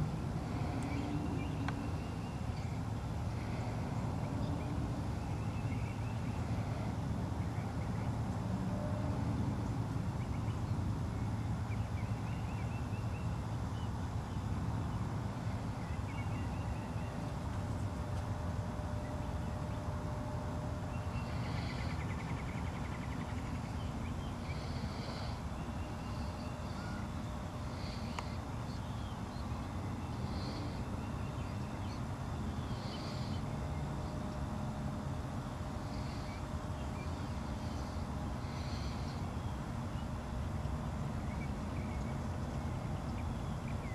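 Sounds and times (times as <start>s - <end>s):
steady low rumble: 0.0s - 43.9s.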